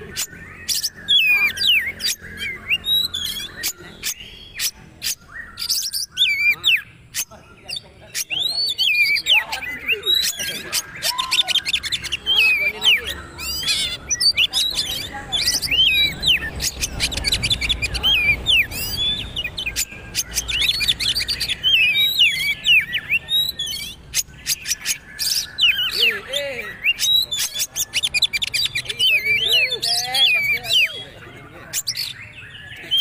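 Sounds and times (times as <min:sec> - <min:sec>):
songbird singing rapid chirps: 0:00.0 - 0:33.0.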